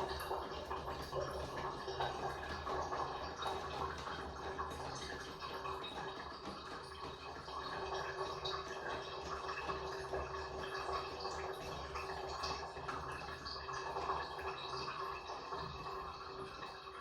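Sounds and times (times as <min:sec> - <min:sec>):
water dripping: 0:00.0 - 0:17.0
water running: 0:00.0 - 0:17.0.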